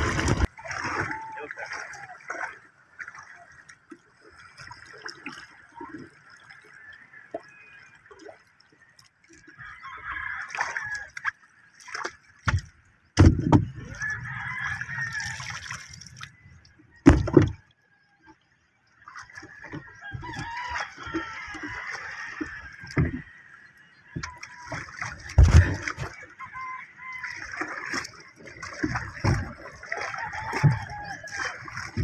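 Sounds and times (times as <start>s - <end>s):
seawater sloshing and lapping: 0.0s - 32.0s.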